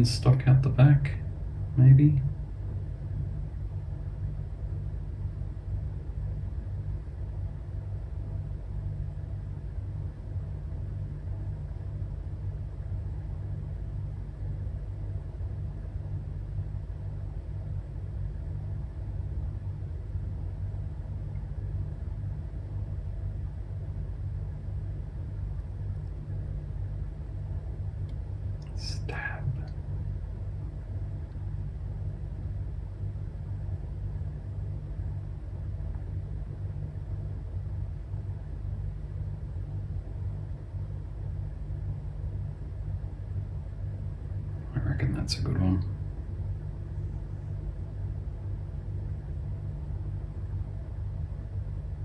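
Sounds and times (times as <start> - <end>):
faint even hum: 0.0 - 52.0
steady low rumble: 0.0 - 52.0.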